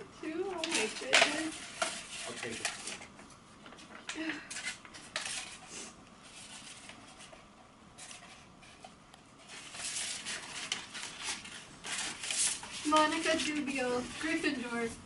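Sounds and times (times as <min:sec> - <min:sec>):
paper scrolls rustling: 0:00.6 - 0:15.0.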